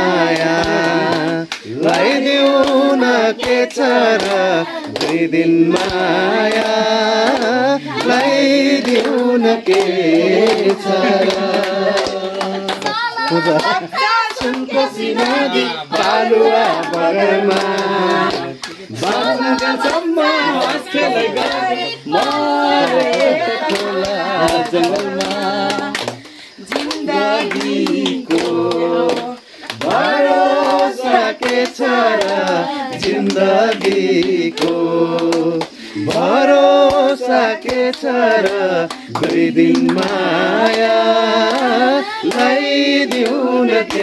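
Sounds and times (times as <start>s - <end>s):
hand clapping: 0.0s - 44.0s
person singing with long held notes: 0.0s - 44.0s.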